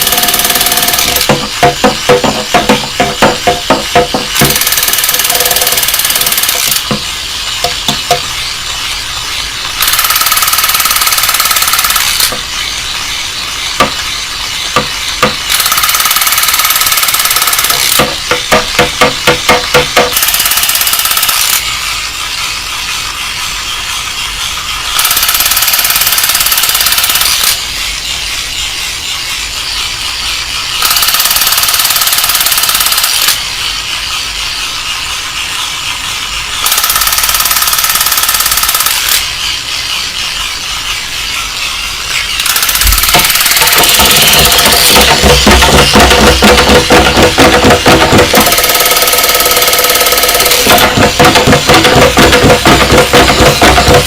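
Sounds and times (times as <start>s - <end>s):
toy vehicle rattling noise: 0.0s - 54.0s.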